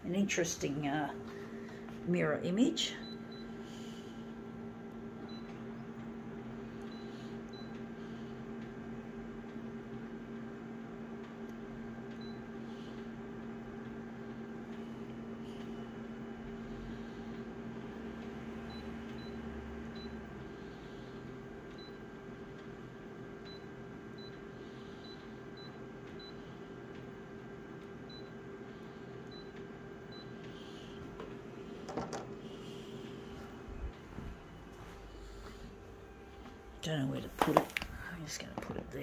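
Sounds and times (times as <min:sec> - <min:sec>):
photocopier hum: 0:00.0 - 0:39.0.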